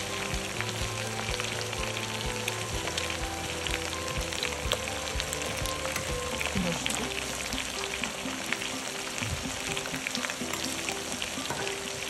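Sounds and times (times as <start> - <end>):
food sizzling in pan: 0.0 - 12.0.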